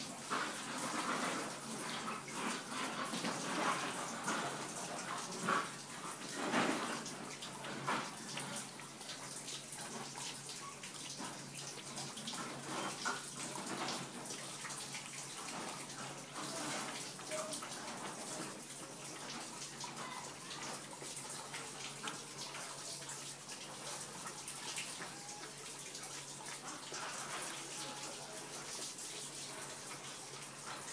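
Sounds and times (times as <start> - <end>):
puppy lapping milk: 0.2 - 30.9.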